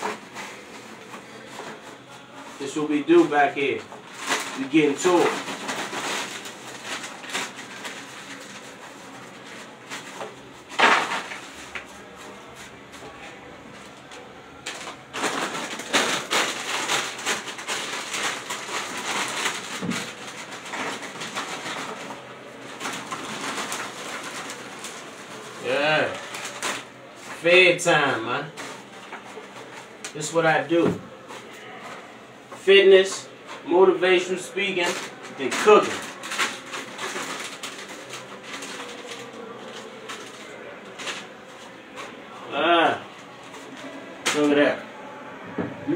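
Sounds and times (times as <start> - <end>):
plastic snack bag crinkling: 0.0 - 31.7, 33.0 - 45.1.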